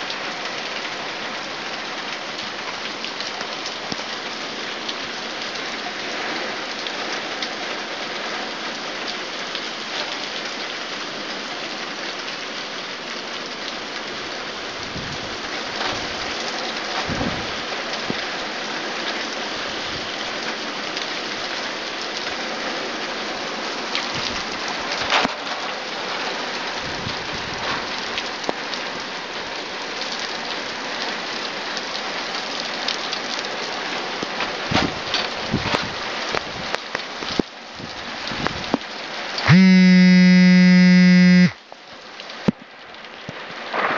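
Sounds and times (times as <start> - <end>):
torrential rain: 0.0 - 43.9.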